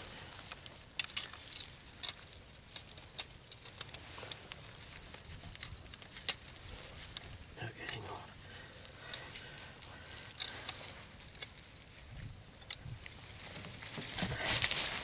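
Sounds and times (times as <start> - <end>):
dry grass crackling: 0.0 - 15.0.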